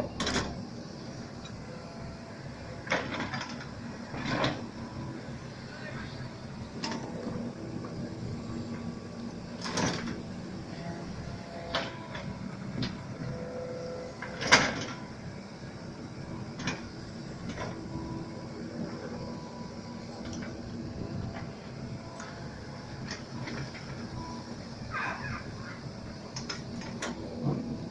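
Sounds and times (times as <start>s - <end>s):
excavator humming: 0.0s - 27.9s.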